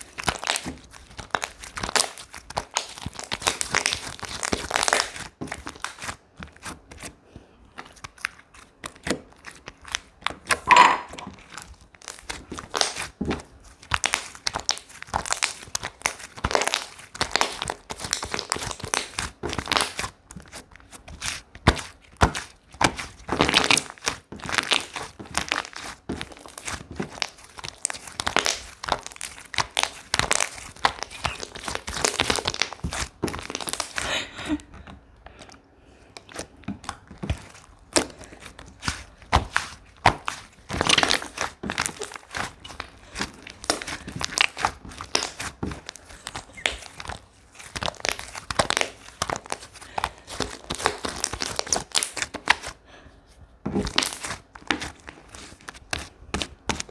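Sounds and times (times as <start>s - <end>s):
slime squished by hand: 0.0s - 52.9s, 53.5s - 56.9s.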